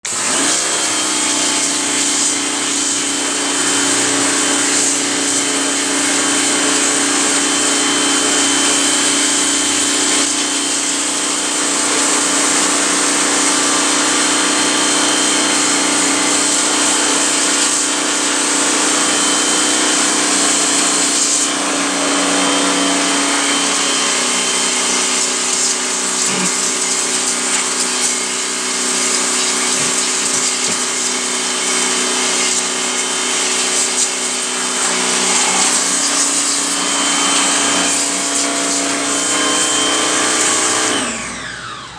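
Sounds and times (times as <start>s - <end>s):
electric motor whining with hiss: 0.1s - 41.9s.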